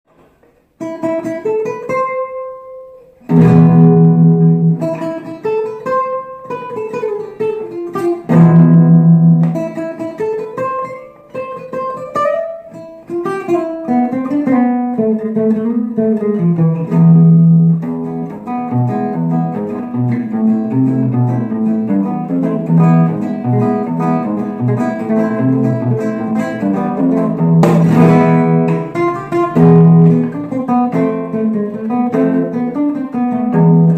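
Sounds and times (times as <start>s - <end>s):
flamenco acoustic guitar: 0.0s - 33.9s.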